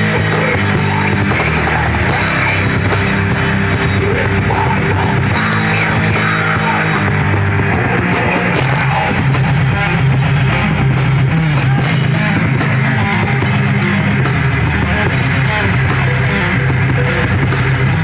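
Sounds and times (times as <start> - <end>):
bass guitar: 0.0 - 18.0
distorted electric guitars: 0.0 - 18.0
drum kit: 0.0 - 18.0
heavy metal band playing: 0.0 - 18.0.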